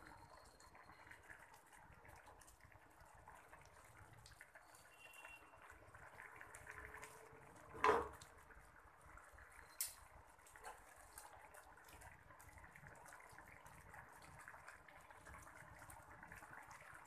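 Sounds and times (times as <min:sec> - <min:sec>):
curry simmering and bubbling: 0:00.0 - 0:17.0.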